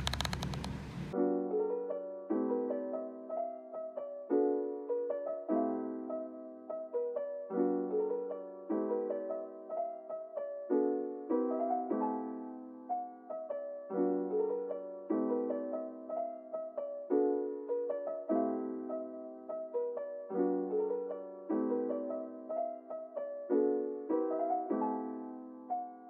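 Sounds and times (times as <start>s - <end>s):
soft piano music: 0.0s - 26.0s.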